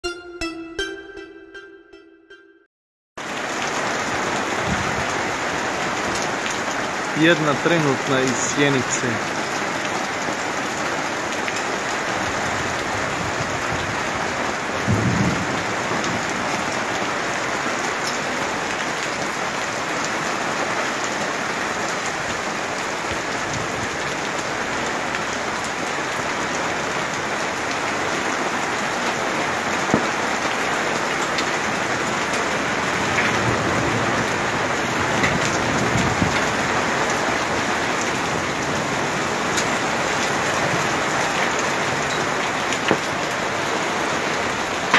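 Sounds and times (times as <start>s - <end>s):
heavy rain on flooded street: 3.2s - 44.9s.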